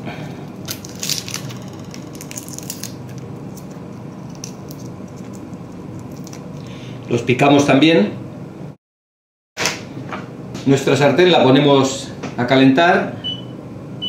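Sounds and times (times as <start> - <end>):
low background hum: 0.0 - 8.8, 9.6 - 14.0.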